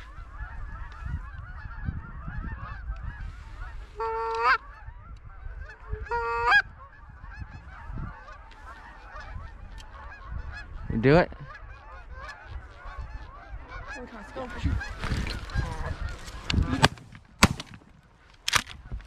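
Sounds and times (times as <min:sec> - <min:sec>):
geese honking: 0:00.0 - 0:16.9
wind rumbling on microphone: 0:00.0 - 0:19.0.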